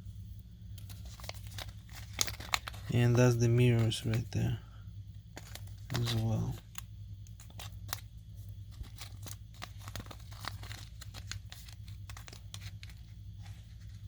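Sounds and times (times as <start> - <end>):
steady low hum: 0.0 - 14.0
plastic parts being handled: 0.7 - 4.5, 5.3 - 14.0.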